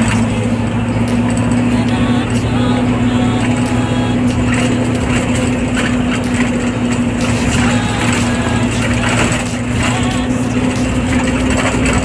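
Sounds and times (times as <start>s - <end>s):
minibus engine running: 0.0s - 12.0s
road noise inside vehicle: 0.0s - 12.0s.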